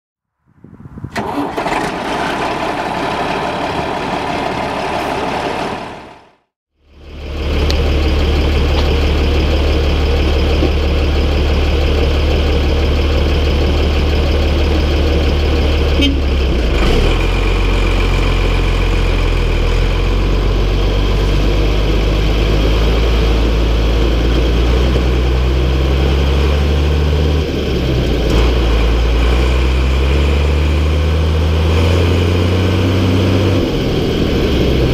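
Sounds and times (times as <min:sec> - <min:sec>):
diesel engine running: 0:00.8 - 0:34.9.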